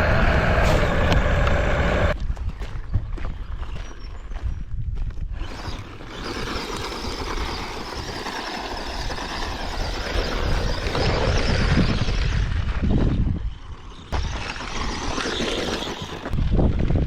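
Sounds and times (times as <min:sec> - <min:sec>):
electric motor and gears whirring: 0:00.0 - 0:17.0
toy truck tyres on concrete: 0:00.0 - 0:17.0.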